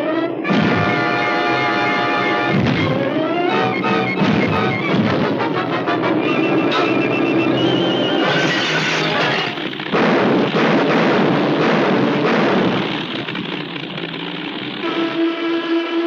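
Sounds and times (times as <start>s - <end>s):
loud rushing engine noise: 0.0s - 16.0s
steady pulsing drone: 0.0s - 16.0s
cartoon crash: 0.4s - 13.8s.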